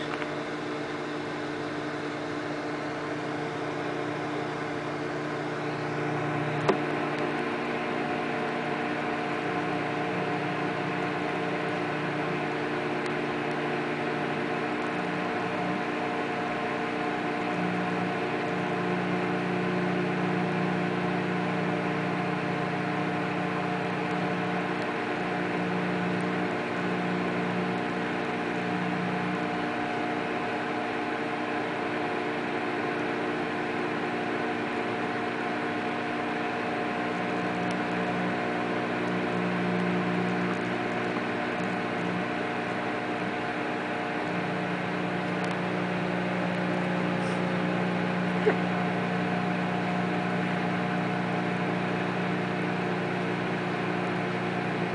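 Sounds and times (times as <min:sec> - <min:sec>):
microwave oven humming: 0:00.0 - 0:54.9.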